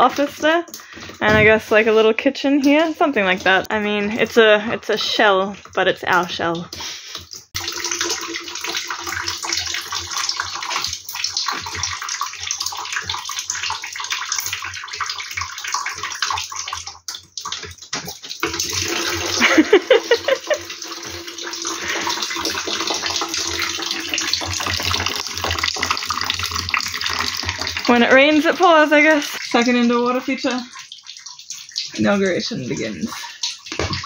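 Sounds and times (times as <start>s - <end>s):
water splashing into plastic bucket: 0.0s - 34.0s.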